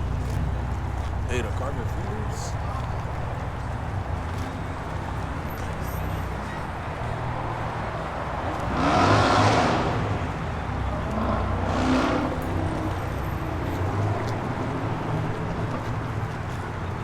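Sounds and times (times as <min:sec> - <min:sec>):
car engines idling: 0:00.0 - 0:17.0
cars driving past: 0:00.0 - 0:17.0.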